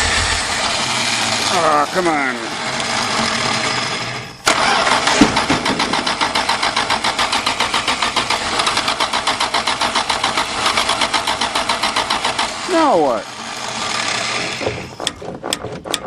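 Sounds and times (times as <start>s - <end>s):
engine cranking on starter: 0.0s - 16.0s.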